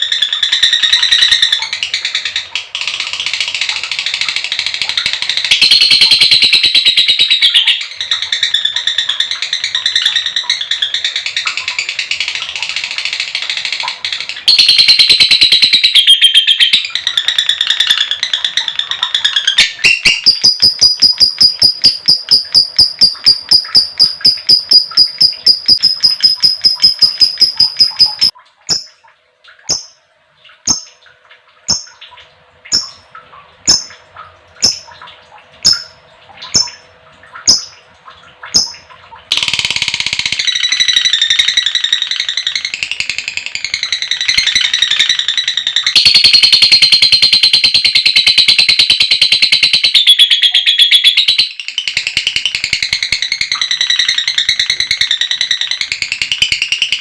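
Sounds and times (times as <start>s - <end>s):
lovebird chattering and chirping: 0.0s - 12.3s, 13.8s - 29.0s, 29.6s - 30.0s, 32.7s - 33.0s, 34.6s - 34.9s, 35.6s - 36.8s, 38.5s - 57.0s.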